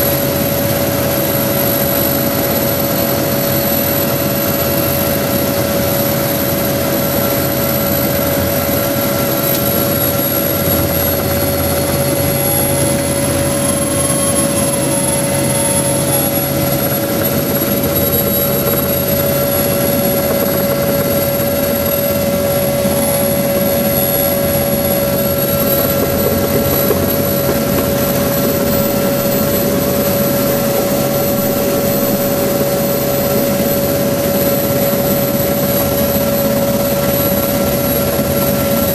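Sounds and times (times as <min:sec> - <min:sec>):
helicopter turbines and rotors: 0:00.0 - 0:38.9
high-pitched whine: 0:00.0 - 0:38.9.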